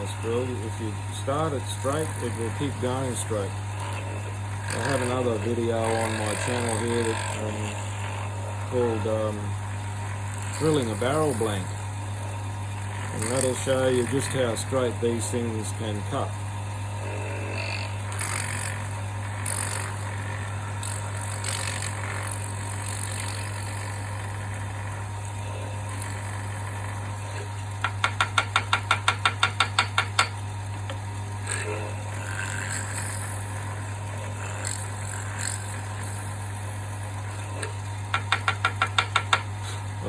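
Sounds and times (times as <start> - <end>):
drill boring into wood: 0.0 - 9.4, 10.4 - 11.8, 13.0 - 16.3, 17.0 - 36.4, 37.2 - 40.0
wood lathe humming: 0.0 - 40.0.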